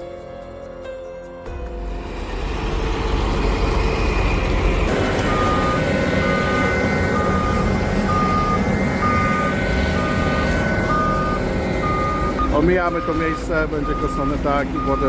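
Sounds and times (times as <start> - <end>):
heavy vehicle engine running: 0.0 - 15.0
reversing alarm beeping: 2.4 - 15.0.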